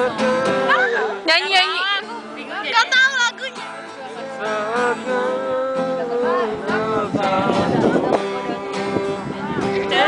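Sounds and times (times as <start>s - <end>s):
group singing: 0.0s - 2.4s, 3.4s - 10.0s
acoustic guitar: 0.0s - 10.0s.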